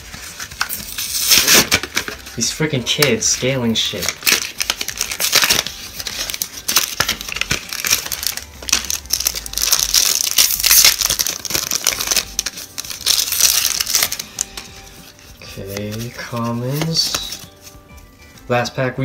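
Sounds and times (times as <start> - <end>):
foil wrapper crinkling and tearing: 0.0 - 17.8
paper card rustling: 0.0 - 18.8.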